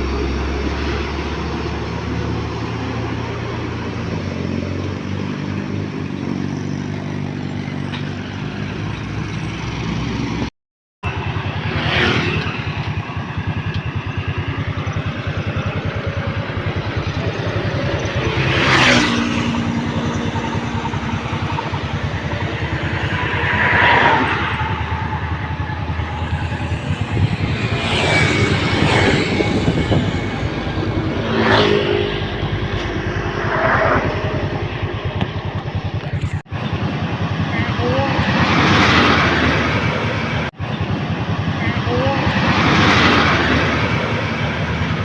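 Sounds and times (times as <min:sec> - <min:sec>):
low engine rumble of traffic: 0:00.0 - 0:45.0
vehicles passing: 0:00.0 - 0:45.0.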